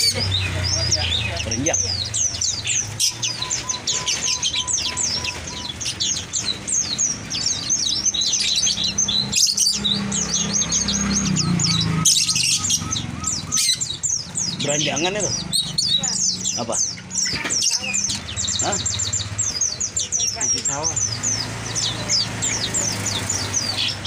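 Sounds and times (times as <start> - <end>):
small songbirds chirping and trilling: 0.0 - 24.0.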